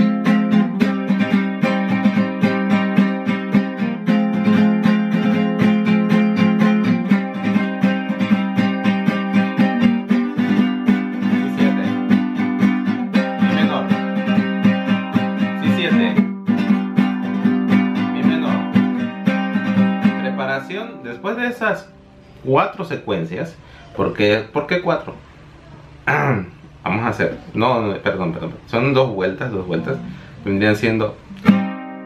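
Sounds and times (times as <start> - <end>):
acoustic guitar strummed fast: 0.0 - 22.4, 27.3 - 32.0.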